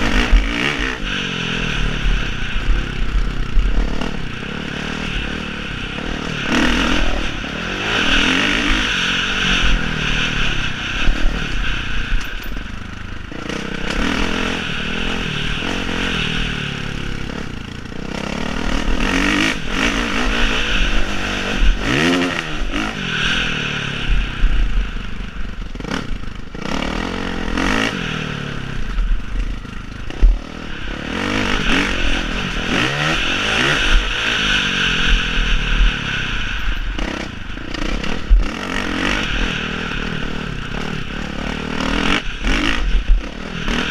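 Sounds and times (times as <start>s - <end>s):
motocross bike engines revving: 0.0s - 43.9s.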